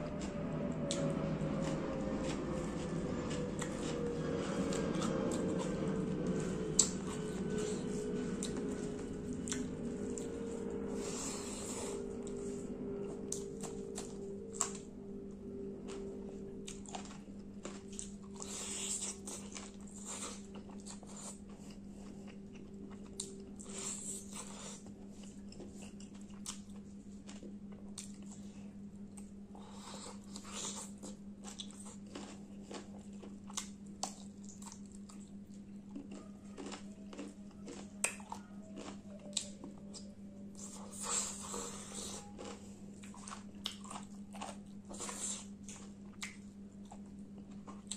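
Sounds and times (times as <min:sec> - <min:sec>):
person chewing food: 0:00.0 - 0:47.9
steady low hum: 0:00.0 - 0:47.9.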